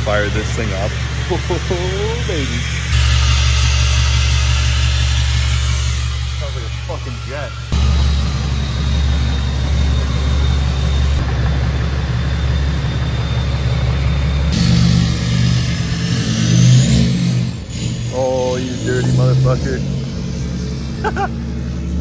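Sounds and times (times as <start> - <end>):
diesel truck engine droning: 0.0 - 22.0
engine revving: 0.0 - 22.0
turbo spooling whine: 0.0 - 22.0.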